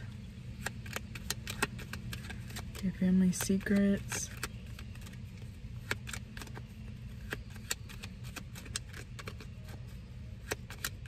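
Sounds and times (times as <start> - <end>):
low steady hum: 0.0 - 11.0
cards being shuffled: 0.5 - 11.0.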